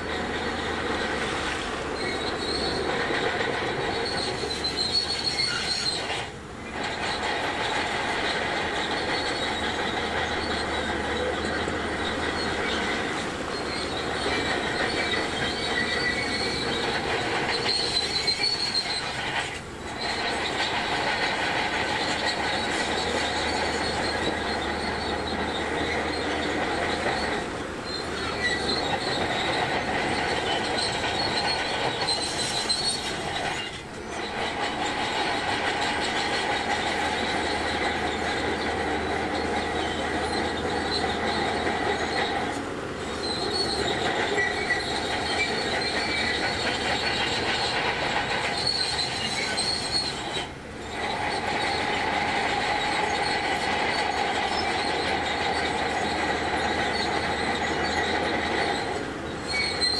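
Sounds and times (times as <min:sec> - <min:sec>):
bulldozer engine running: 0:00.0 - 0:59.9
steel tracks squealing: 0:00.0 - 0:59.9.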